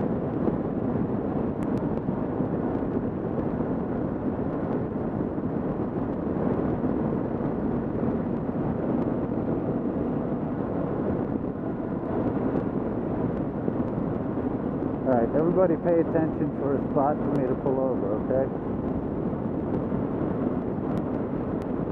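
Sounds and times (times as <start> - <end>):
wind rush: 0.0 - 21.9.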